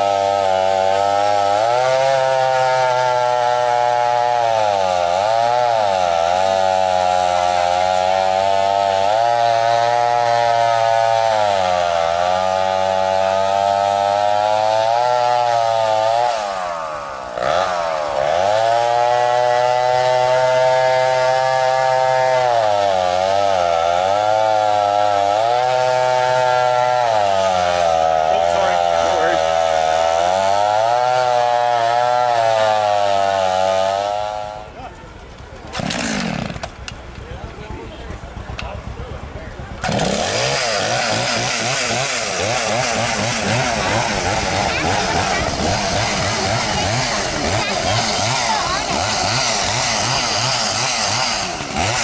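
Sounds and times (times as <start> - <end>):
chainsaw cutting log: 0.0 - 37.2, 39.8 - 52.0.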